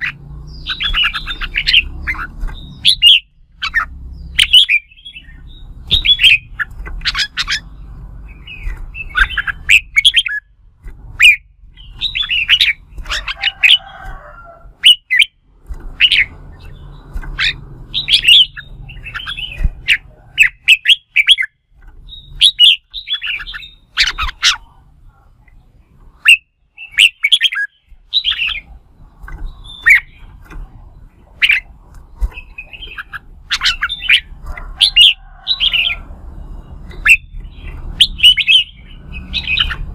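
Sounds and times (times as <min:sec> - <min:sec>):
birds chattering song: 0:00.0 - 0:39.9.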